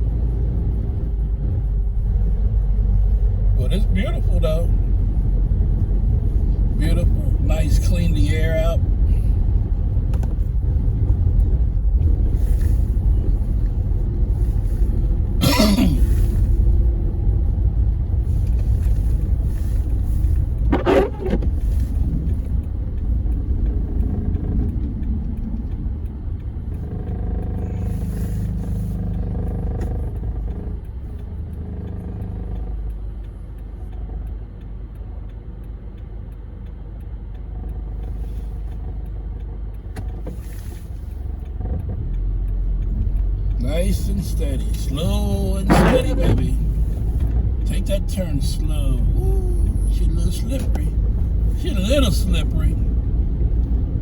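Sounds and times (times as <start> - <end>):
car rumbling on snowy road: 0.0 - 54.0.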